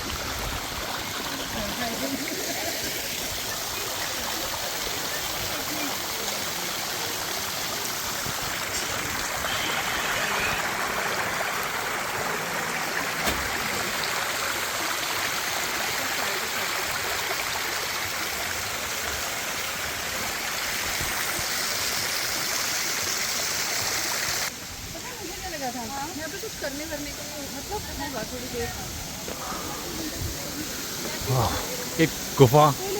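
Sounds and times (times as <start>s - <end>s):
water rushing at waterfall: 0.0s - 32.9s.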